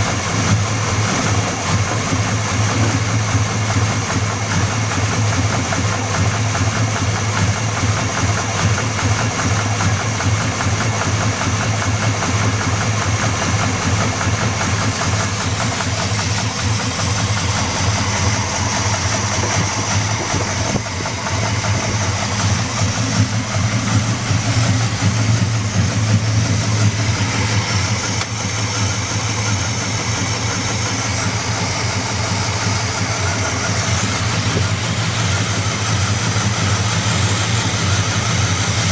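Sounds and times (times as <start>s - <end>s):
car engine idling: 0.0s - 38.9s
rapid engine knock: 0.0s - 38.9s.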